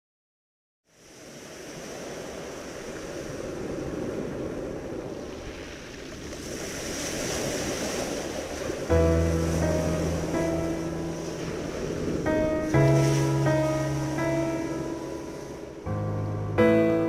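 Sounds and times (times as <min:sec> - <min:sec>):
sea waves washing on shore: 0:00.9 - 0:17.0.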